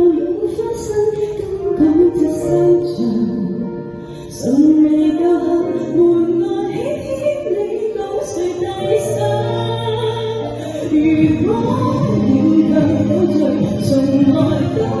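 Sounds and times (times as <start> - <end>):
woman singing a slow pop song: 0.0 - 15.0.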